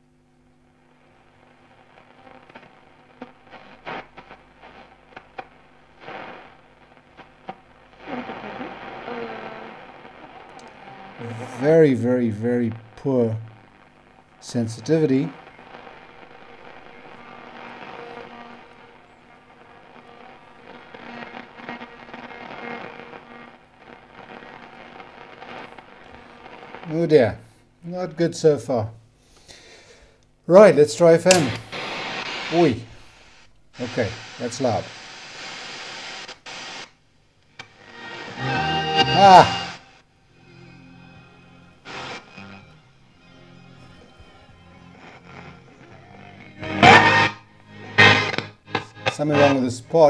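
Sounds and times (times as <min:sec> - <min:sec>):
radio static hiss and crackles: 0:00.0 - 0:50.0
faint radio signal: 0:00.7 - 0:27.4, 0:30.5 - 0:50.0
radio noise bursts: 0:00.8 - 0:27.3, 0:31.2 - 0:40.1, 0:41.8 - 0:42.8, 0:43.8 - 0:50.0.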